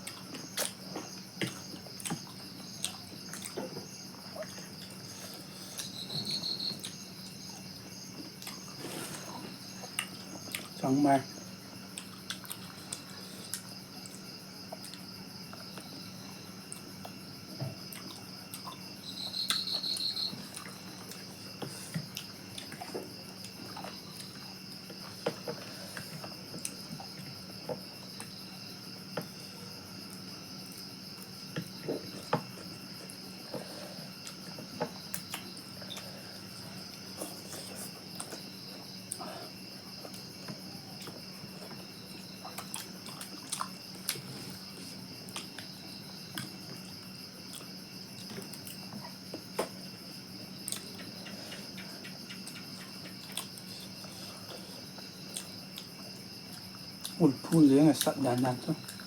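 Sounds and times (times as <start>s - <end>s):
crickets chirping: 0.0s - 59.0s
loud cricket trill: 0.0s - 59.0s.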